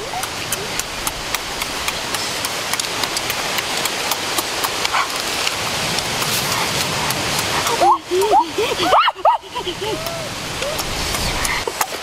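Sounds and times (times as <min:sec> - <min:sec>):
shallow stream rushing: 0:00.0 - 0:12.0.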